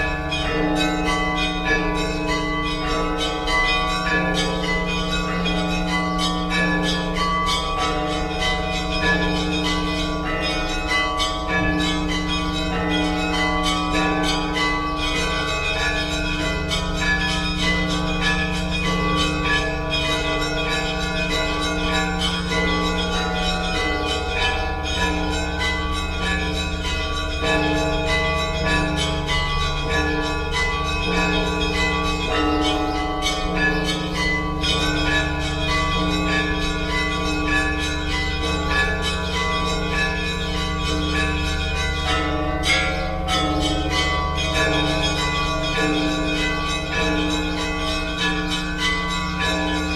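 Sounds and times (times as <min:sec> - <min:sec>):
deep bells humming: 0:00.0 - 0:49.9.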